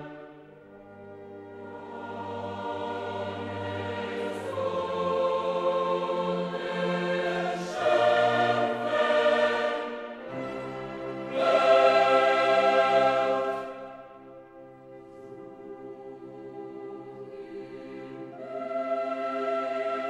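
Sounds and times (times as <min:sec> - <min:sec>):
choir singing long chords: 0:00.0 - 0:20.0.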